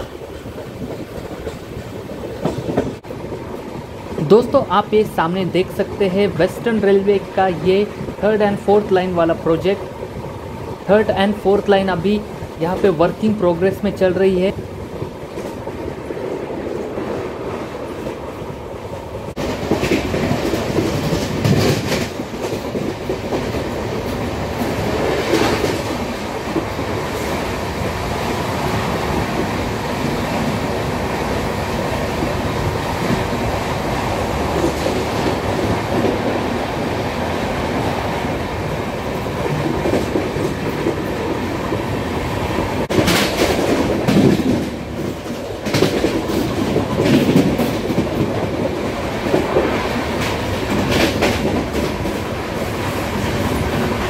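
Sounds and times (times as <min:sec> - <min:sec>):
train wheels clattering over rails: 0:00.0 - 0:04.5, 0:14.6 - 0:54.0.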